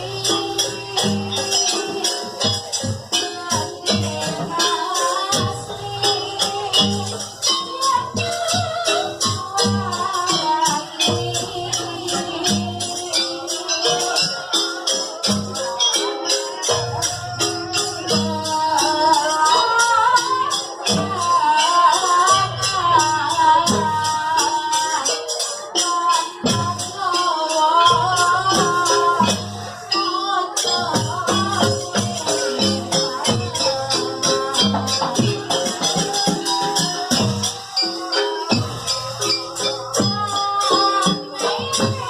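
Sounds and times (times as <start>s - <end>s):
fast jingling percussion: 0.0s - 42.0s
wavering melody line: 0.0s - 42.0s.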